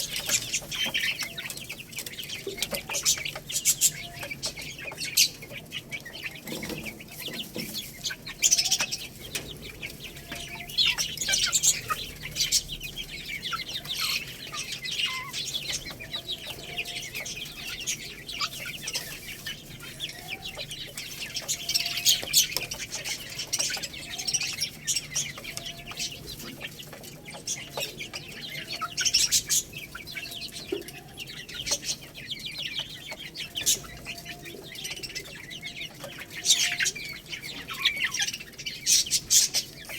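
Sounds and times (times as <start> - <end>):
young chickens peeping: 0.0 - 39.9.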